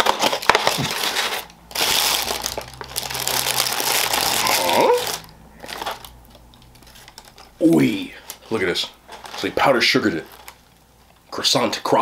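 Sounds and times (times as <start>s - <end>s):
paper wrap crinkling: 0.0s - 12.0s.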